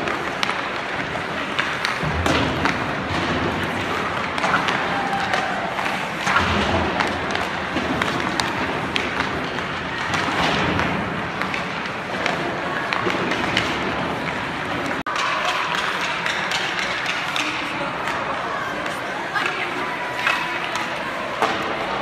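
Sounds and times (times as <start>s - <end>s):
sticks knocking pucks: 0.0s - 19.6s
arena background noise: 0.0s - 22.0s
skates scraping ice: 0.0s - 22.0s.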